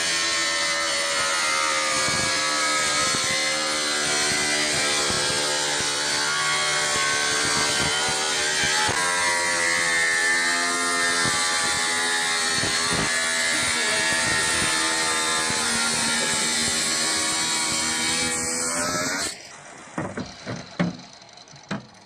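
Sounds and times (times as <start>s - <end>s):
tool scraping metal: 0.0s - 19.4s
power tool motor whine: 0.0s - 22.0s.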